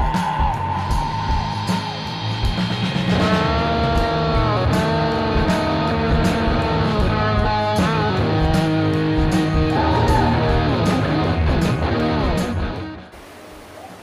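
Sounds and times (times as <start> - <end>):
steady drum beat: 0.0 - 12.8
rock music with guitar: 0.0 - 13.1.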